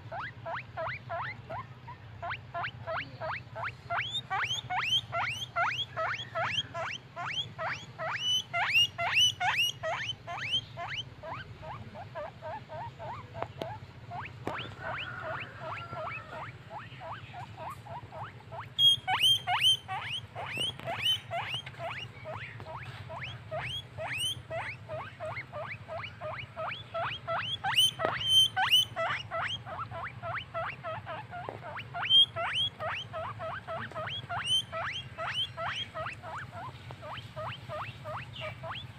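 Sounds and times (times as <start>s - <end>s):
guinea pig squeaking: 0.0s - 38.9s.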